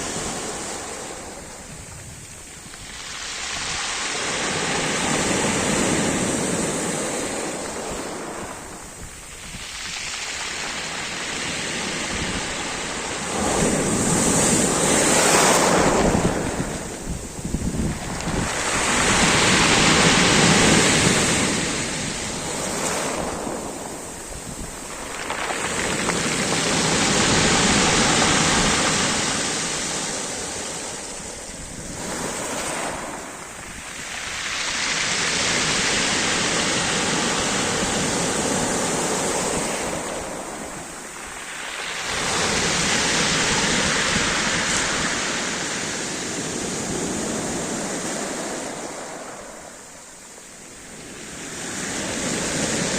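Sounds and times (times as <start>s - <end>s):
surf breaking on shore: 0.0s - 52.9s
wind rumbling on microphone: 0.0s - 52.9s.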